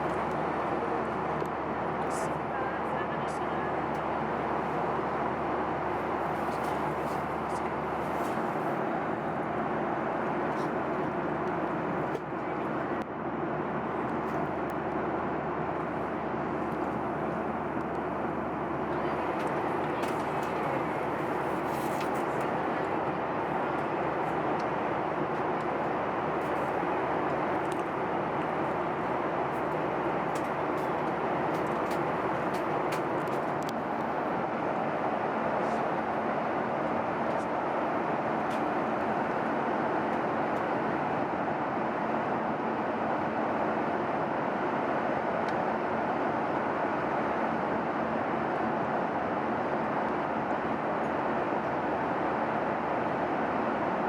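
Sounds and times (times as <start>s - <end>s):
airplane cabin noise: 0.0s - 54.0s.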